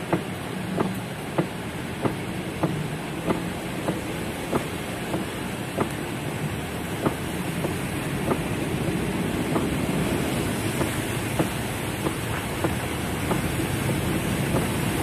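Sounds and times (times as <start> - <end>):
heavy rain on a car roof: 0.0 - 15.0
heavy raindrops tapping: 0.0 - 15.0.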